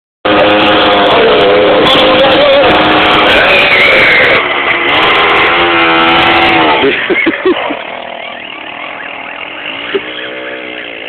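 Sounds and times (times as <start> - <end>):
moped engine revving high: 0.3 - 11.0.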